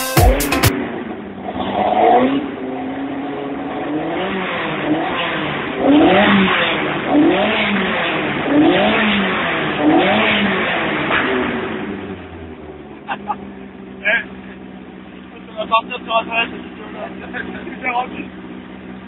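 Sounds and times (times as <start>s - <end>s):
race car engine revving: 0.7s - 19.0s.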